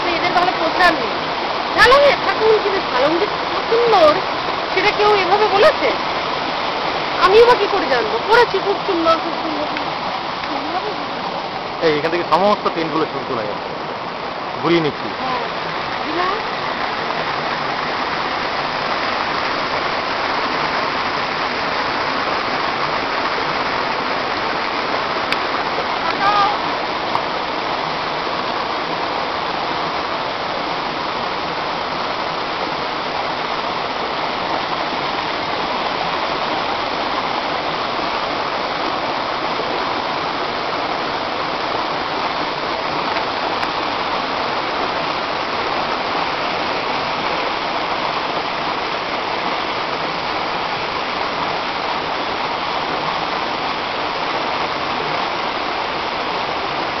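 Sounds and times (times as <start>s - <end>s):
river rushing over boulders: 0.0s - 57.0s.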